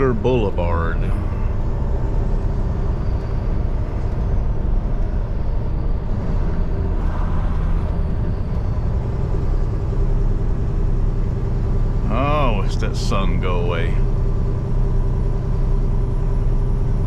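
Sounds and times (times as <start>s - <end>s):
truck diesel engine rumble: 0.0s - 17.0s.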